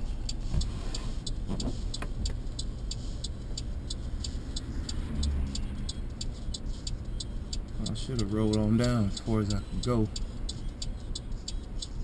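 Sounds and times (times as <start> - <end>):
car driving rumble: 0.0 - 12.0
car turn signal ticking: 0.0 - 12.0.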